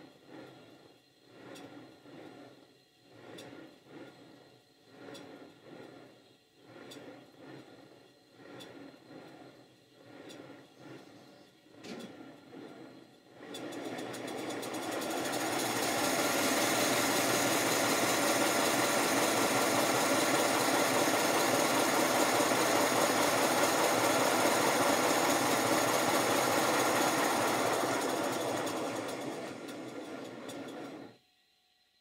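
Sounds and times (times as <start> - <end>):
model steam locomotive exhaust beats: 0.0 - 31.2.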